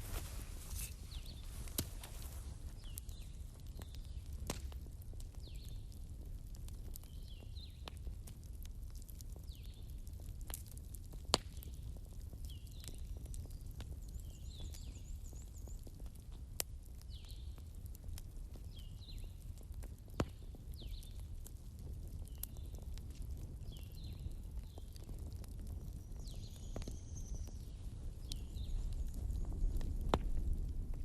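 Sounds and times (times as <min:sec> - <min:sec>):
bonfire crackling: 0:00.0 - 0:31.0.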